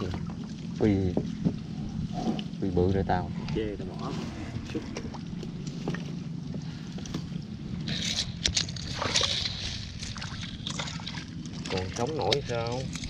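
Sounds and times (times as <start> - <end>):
water sloshing in a boat: 0.0 - 13.0.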